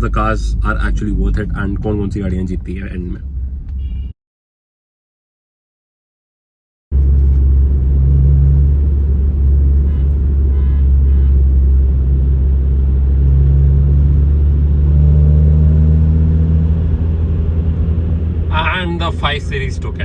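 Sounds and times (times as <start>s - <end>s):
racing car engines rumbling: 0.0s - 3.8s, 7.0s - 20.0s.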